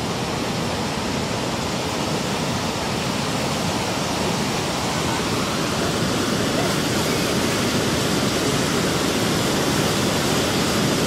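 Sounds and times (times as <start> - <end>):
breaking surf rushing: 0.0 - 11.0.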